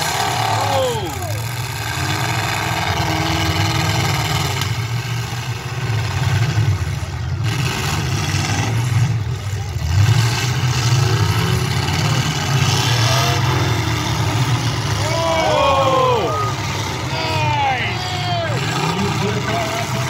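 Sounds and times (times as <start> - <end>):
car engines rumbling and revving: 0.0 - 20.0.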